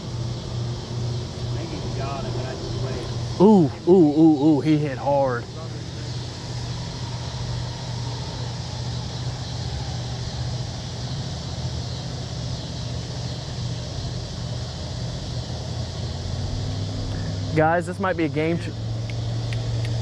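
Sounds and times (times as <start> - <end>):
boat engine humming: 0.0 - 20.0
wind and water hissing: 0.0 - 20.0.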